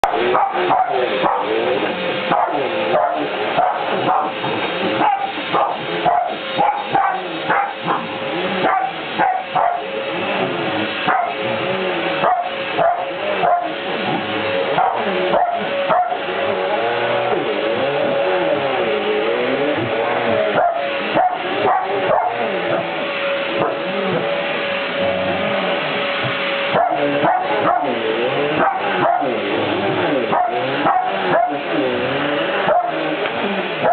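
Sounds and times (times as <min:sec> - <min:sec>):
dog barking and whining: 0:00.0 - 0:17.0, 0:19.8 - 0:33.9
vacuum cleaner running: 0:00.0 - 0:33.9.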